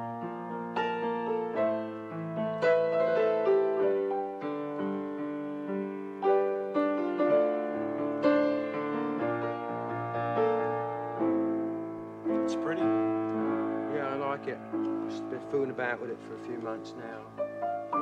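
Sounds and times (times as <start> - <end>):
grand piano playing slow piece: 0.0 - 18.0.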